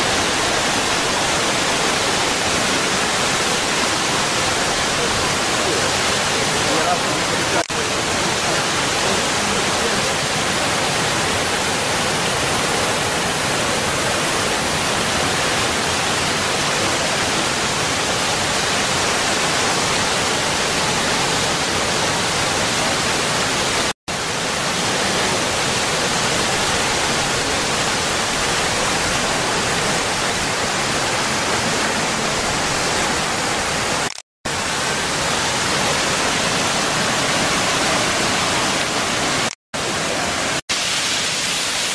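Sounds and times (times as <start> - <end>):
fountain water pouring into a pool: 0.0 - 41.9.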